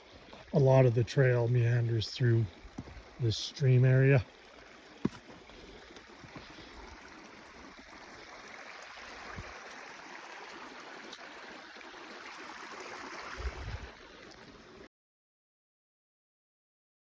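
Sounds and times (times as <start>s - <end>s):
stream water rushing: 0.0s - 14.9s.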